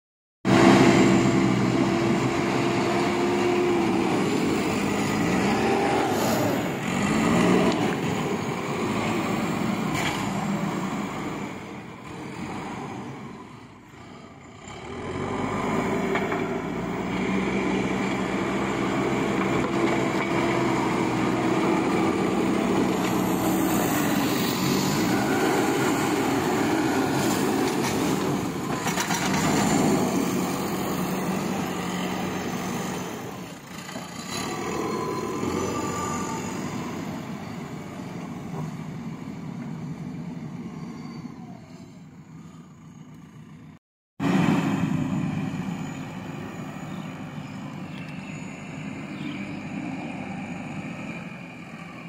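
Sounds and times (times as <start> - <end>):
diesel engine revving: 0.4 - 52.0.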